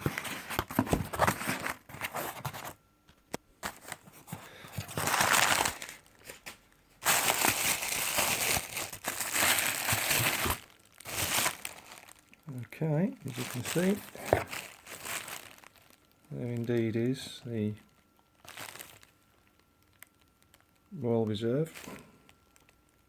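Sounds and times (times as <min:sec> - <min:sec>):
packaging crinkling and rustling: 0:00.0 - 0:12.4, 0:13.2 - 0:23.0.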